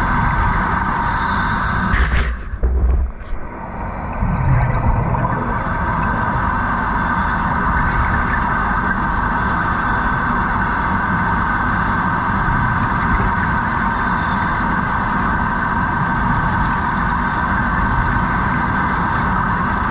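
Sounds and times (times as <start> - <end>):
underwater rumble and hiss: 0.0 - 19.9.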